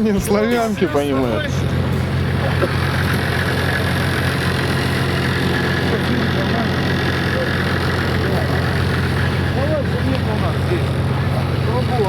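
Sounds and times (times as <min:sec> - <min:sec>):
faint voices: 0:00.0 - 0:12.0
vehicle engine idling: 0:00.0 - 0:12.0.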